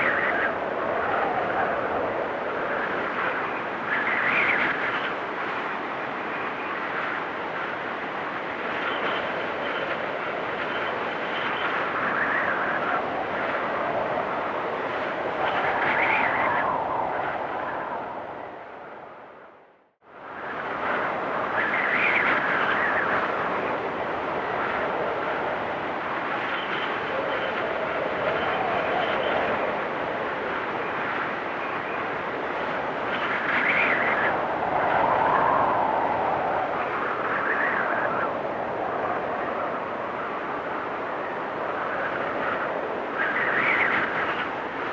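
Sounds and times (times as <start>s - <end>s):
blizzard wind whistling howl: 0.0s - 44.9s.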